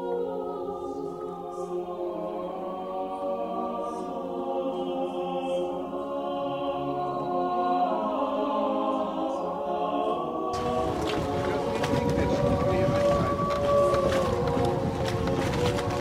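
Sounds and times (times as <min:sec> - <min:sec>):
slow choir-like chords: 0:00.0 - 0:16.0.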